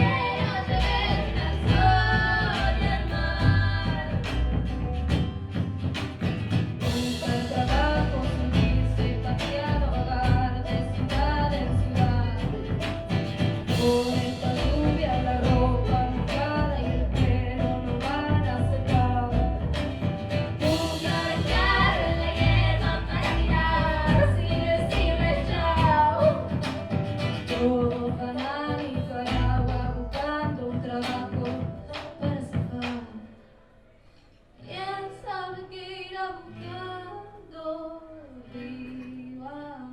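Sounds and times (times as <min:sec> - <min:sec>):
woman singing: 0:00.0 - 0:04.8, 0:06.8 - 0:33.5, 0:34.6 - 0:39.9
double bass: 0:00.0 - 0:32.9
banjo: 0:00.0 - 0:33.0
percussion: 0:00.0 - 0:33.3
acoustic guitar: 0:00.0 - 0:39.9.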